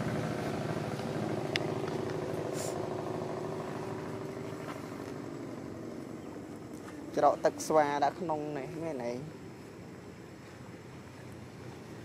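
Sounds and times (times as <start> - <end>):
distant engine humming: 0.0 - 12.0.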